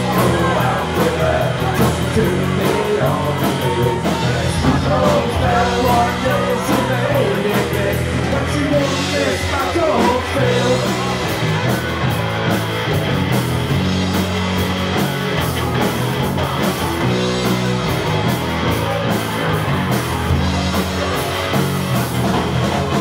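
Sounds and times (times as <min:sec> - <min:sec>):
bass guitar: 0:00.0 - 0:23.0
drum kit: 0:00.0 - 0:23.0
electric guitar: 0:00.0 - 0:23.0.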